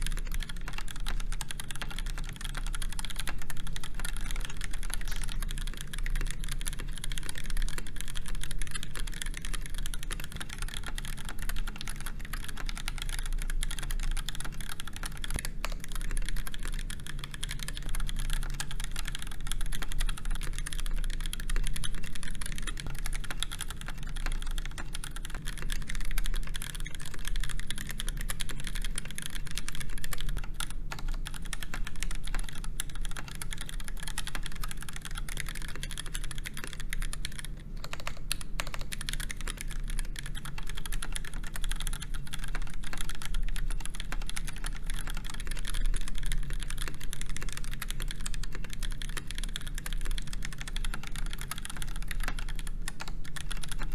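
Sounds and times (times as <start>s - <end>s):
mechanical keyboard typing: 0.0s - 53.9s.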